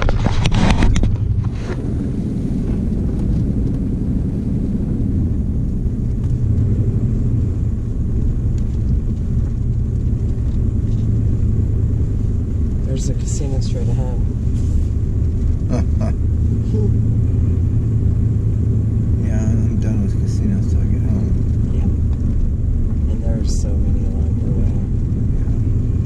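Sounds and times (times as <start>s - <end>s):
vehicle engine rumble: 0.0s - 26.0s.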